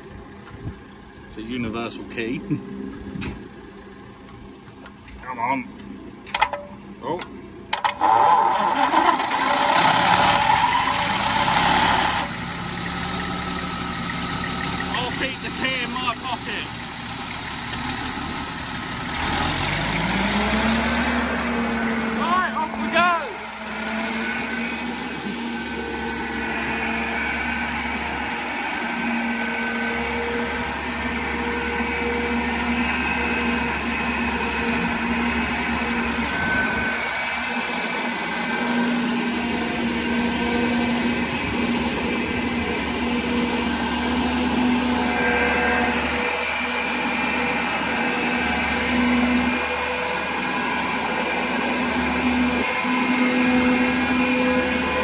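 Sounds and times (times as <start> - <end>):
blower engine running: 7.7 - 55.0.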